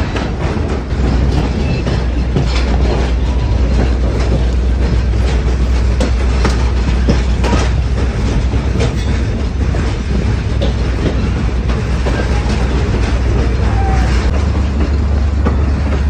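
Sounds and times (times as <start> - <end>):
train rumbling on track: 0.0 - 16.0
wheels clicking over rails: 0.0 - 16.0.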